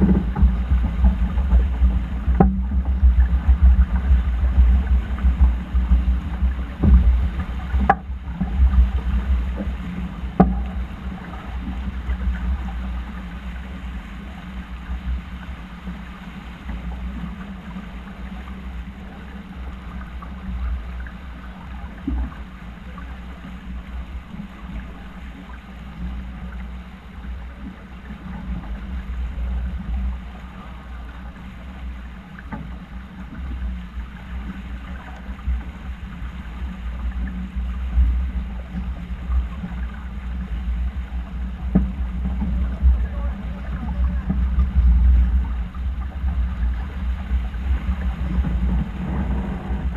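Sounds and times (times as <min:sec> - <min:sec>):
water rushing along hull: 0:00.0 - 0:49.9
wind rumbling on microphone: 0:00.0 - 0:49.9.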